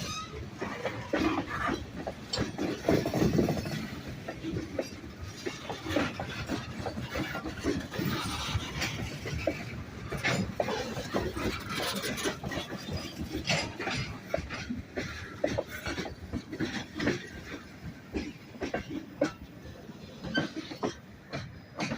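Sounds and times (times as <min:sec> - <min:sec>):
train low rumble: 0:00.0 - 0:21.9
train wheels knocking on rail joints: 0:00.0 - 0:21.9.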